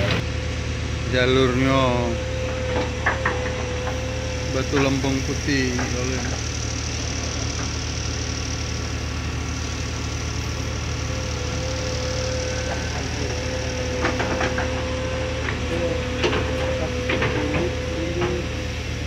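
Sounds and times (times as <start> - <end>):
heavy diesel excavator engine: 0.0 - 19.0
thin steady whine: 0.0 - 19.0.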